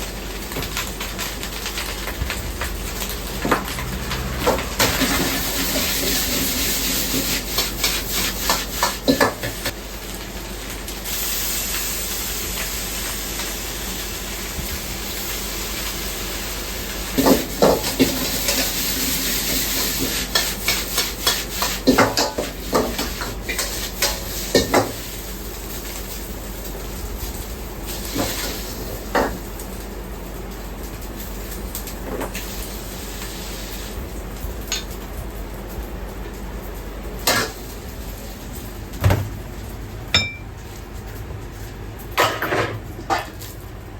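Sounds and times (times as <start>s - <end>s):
rice sizzling in a wok: 0.0s - 43.9s.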